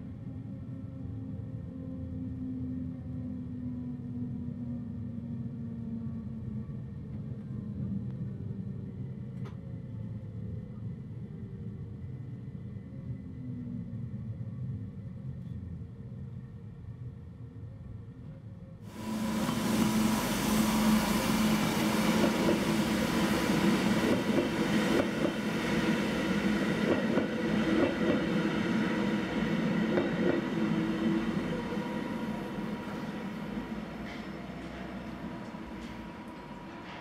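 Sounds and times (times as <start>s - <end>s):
electric train hum: 0.0s - 37.0s
low rumble inside train cab: 0.0s - 37.0s.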